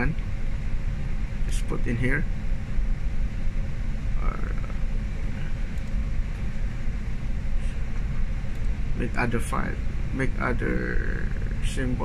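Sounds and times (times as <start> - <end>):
ship machinery rumble and hum: 0.0 - 12.0.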